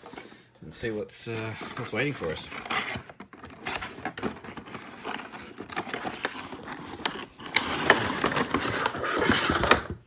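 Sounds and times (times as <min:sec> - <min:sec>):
packaging box rustling: 0:00.0 - 0:10.0.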